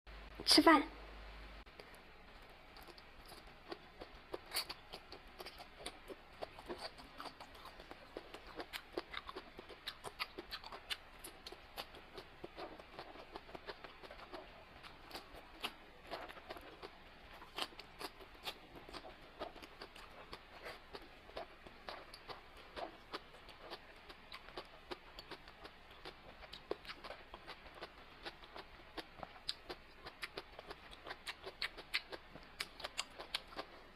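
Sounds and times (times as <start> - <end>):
crunching and chewing: 1.7 - 33.9.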